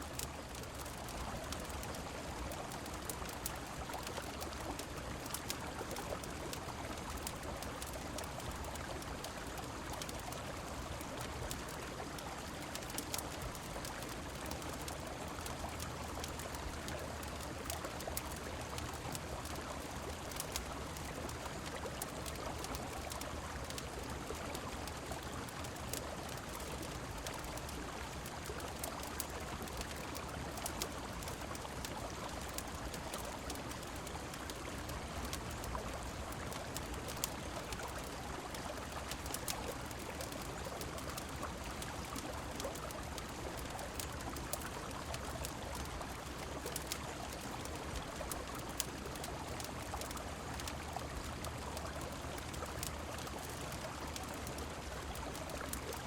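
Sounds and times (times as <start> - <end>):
rain: 0.0 - 56.0
small sharp crackles: 0.0 - 56.0.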